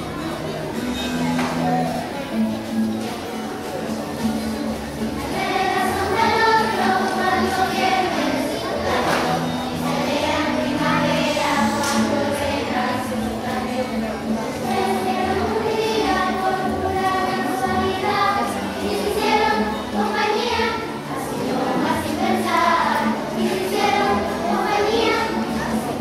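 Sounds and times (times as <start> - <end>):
acoustic guitar: 0.0 - 26.0
children's choir singing: 0.0 - 26.0.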